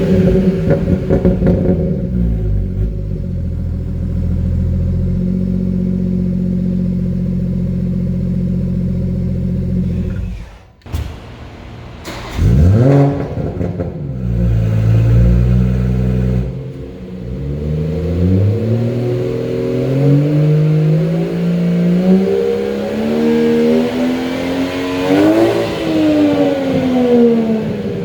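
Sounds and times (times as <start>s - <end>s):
car engine revving through exhaust: 0.0s - 10.6s, 12.1s - 28.0s.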